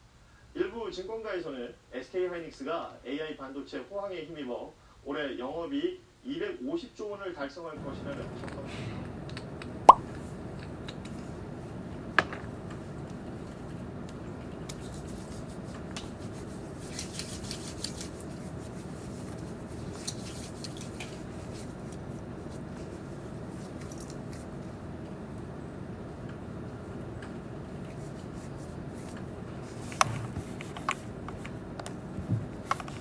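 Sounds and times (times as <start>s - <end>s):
low room noise: 0.0s - 33.0s.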